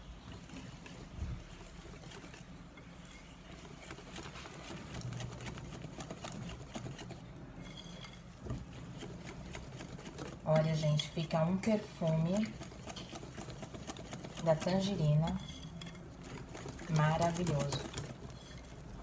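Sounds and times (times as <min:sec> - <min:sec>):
whisk clicking against glass bowl: 0:01.7 - 0:18.8.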